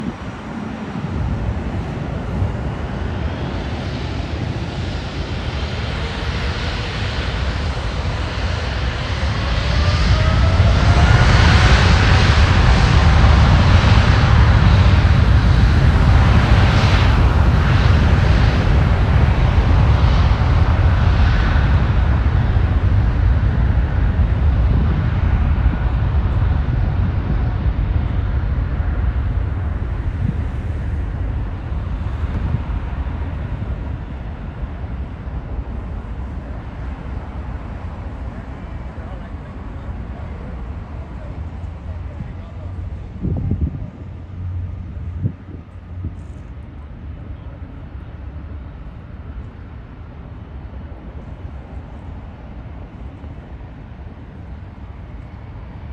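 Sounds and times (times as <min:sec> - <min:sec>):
jet engines rumbling and whining: 0:00.0 - 0:55.9.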